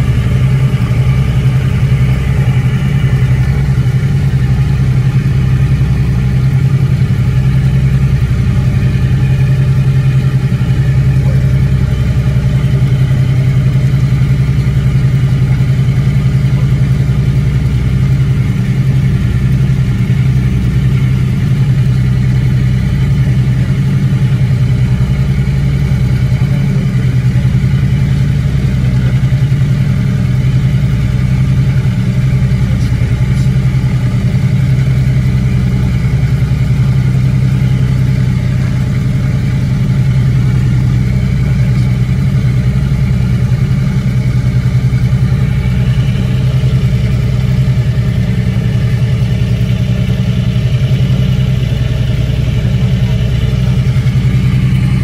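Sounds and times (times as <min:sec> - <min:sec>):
propeller plane engines droning: 0:00.0 - 0:55.0.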